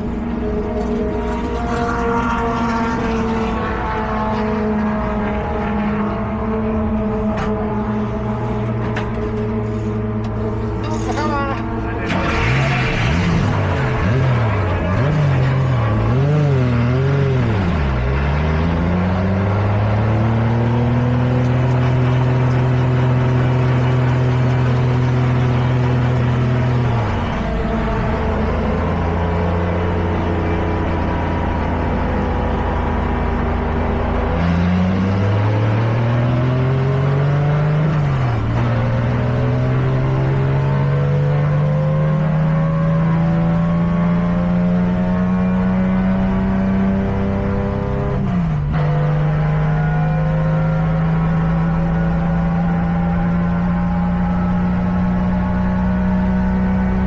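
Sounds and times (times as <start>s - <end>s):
truck engine accelerating: 0.0s - 57.0s.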